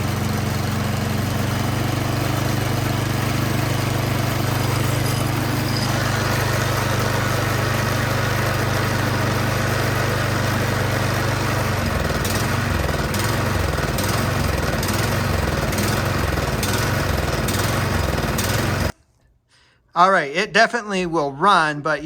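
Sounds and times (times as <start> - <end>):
snowblower engine surging: 0.0 - 18.9.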